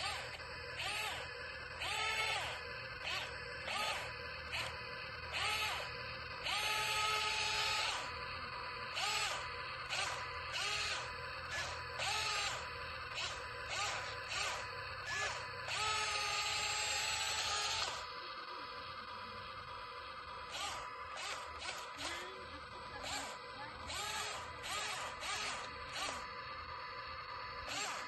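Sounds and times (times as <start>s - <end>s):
small electric motor whining: 0.0s - 28.0s.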